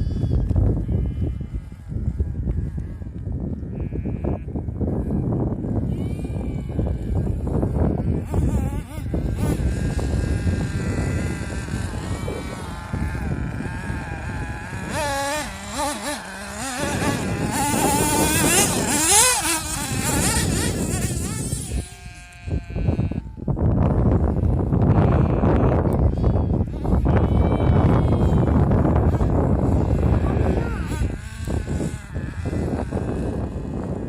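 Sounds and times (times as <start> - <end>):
small engine revving: 0.0 - 23.4, 24.1 - 34.0.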